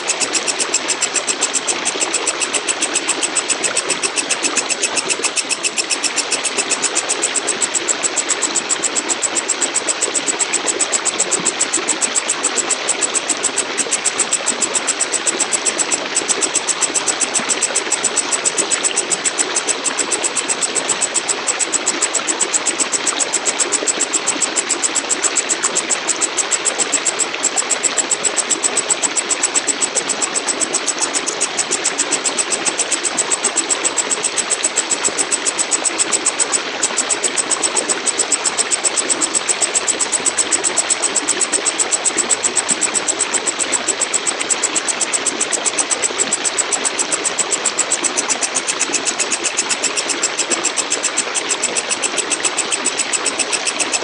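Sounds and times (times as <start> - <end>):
katydid buzzing trill: 0.0 - 54.0.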